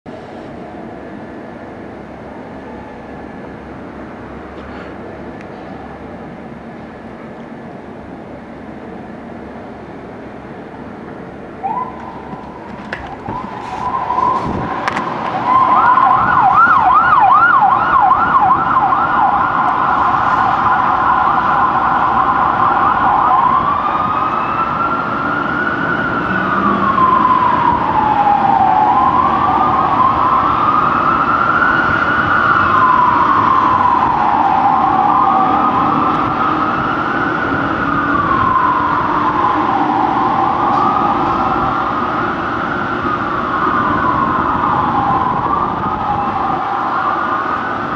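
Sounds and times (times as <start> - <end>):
fire truck siren: 0.1 - 47.9
vehicle engine noise: 0.1 - 47.9.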